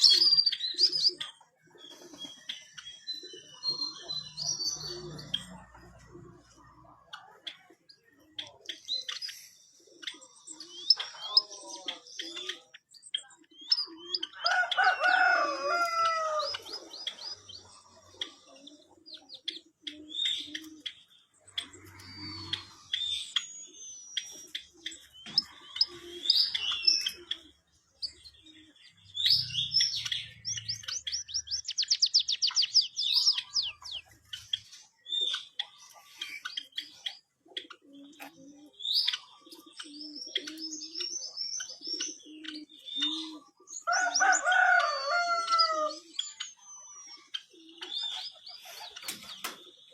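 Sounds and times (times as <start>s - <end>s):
bird singing chirps and trills: 0.0s - 49.9s.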